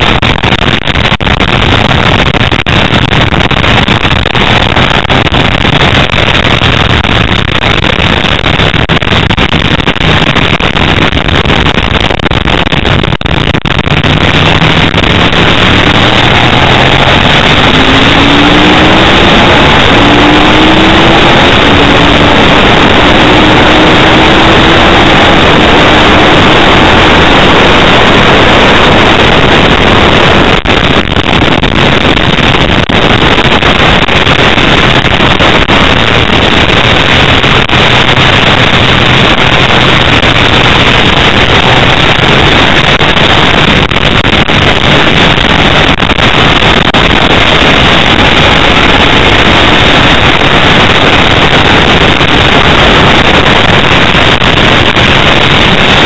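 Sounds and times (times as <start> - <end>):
motorcycle engine accelerating: 0.0 - 56.0
wind rush on microphone: 0.0 - 56.0.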